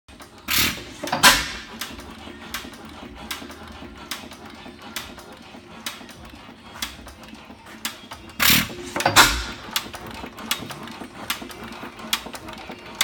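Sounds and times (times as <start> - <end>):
sharp engine clicks: 0.1 - 13.0.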